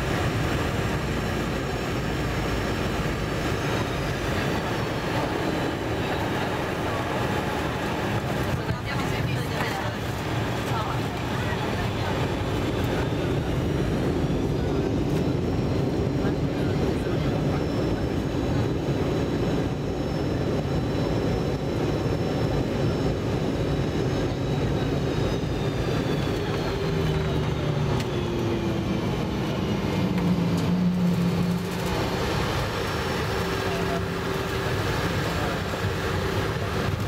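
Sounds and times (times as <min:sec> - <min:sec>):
aircraft engines rumbling: 0:00.0 - 0:37.0.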